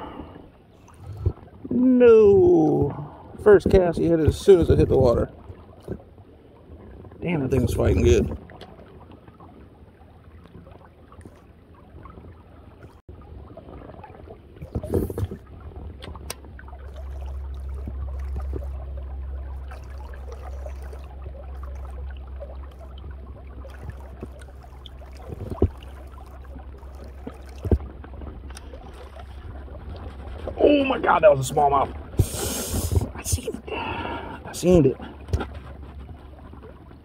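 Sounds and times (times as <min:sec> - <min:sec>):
low steady rumble: 0:00.0 - 0:37.0
water trickling: 0:00.0 - 0:37.0.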